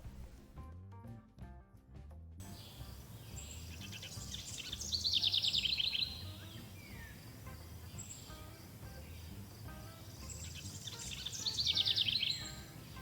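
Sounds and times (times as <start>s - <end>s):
outdoor background noise: 2.4s - 13.0s
songbird trilling: 2.4s - 13.0s.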